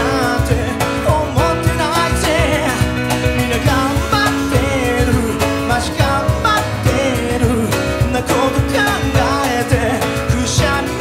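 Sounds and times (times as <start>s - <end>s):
acoustic guitar: 0.0s - 11.0s
drums: 0.0s - 11.0s
grand piano: 0.0s - 11.0s
man singing: 0.0s - 11.0s.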